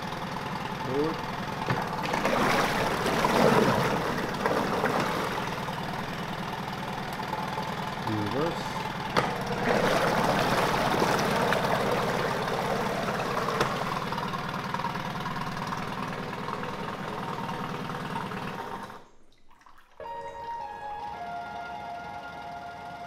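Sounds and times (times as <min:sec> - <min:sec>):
outboard motor running: 0:00.0 - 0:19.1, 0:20.0 - 0:23.0
propeller churning water: 0:00.0 - 0:23.0.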